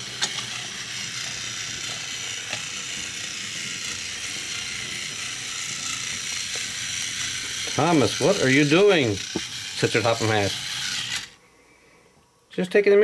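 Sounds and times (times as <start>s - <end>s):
toy train motor whirring: 0.0s - 11.4s.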